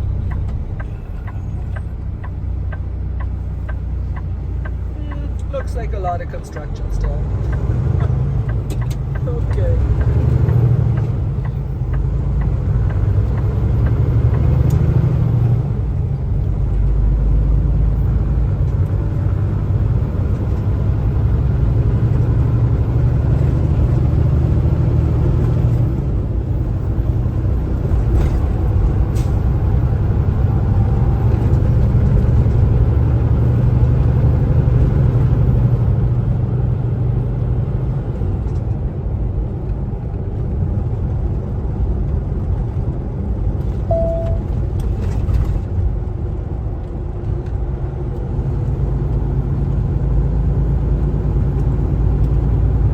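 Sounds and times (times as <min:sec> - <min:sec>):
truck engine and road noise drone: 0:00.0 - 0:52.9.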